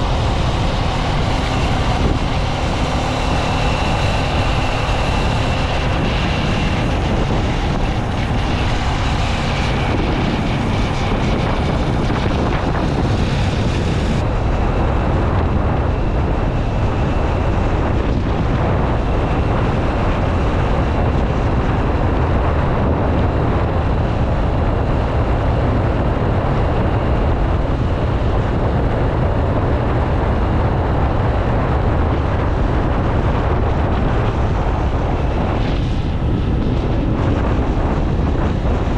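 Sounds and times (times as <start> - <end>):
motorcycle engine: 0.0 - 38.9
road noise: 0.0 - 38.9
wind rushing over microphone: 0.0 - 38.9.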